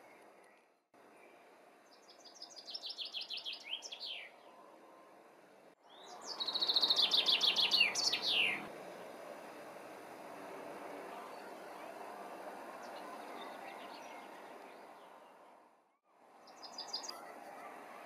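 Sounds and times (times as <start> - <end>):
songbird singing: 0.0 - 5.2, 5.8 - 8.7, 10.4 - 15.6, 16.4 - 18.0
outdoor background hiss: 0.0 - 18.0.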